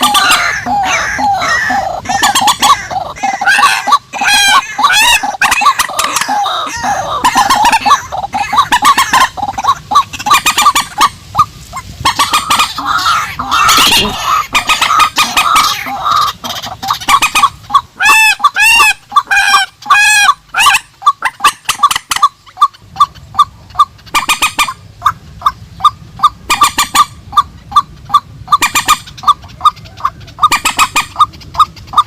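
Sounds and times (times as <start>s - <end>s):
birds clucking and honking: 0.0s - 32.0s.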